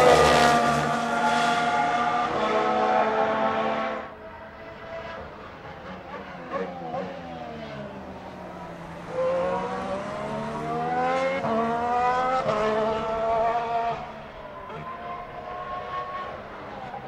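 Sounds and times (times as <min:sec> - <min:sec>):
racing car accelerating: 0:00.0 - 0:17.0.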